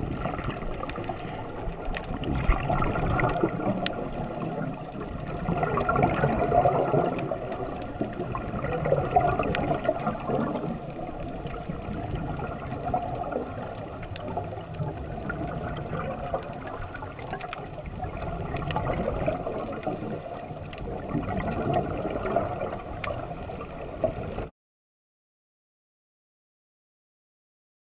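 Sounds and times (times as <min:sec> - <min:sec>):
regulator bubbles underwater: 0:00.0 - 0:24.5.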